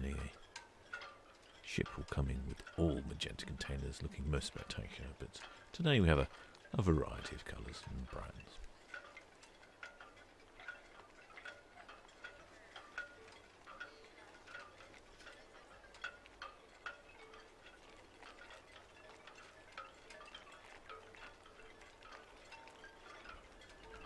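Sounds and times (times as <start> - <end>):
chimes tinkling: 0.0 - 24.0.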